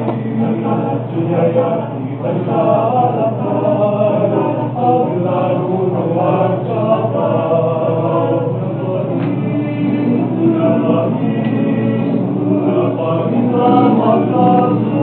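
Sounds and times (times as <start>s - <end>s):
male choir singing a cappella: 0.0s - 15.0s.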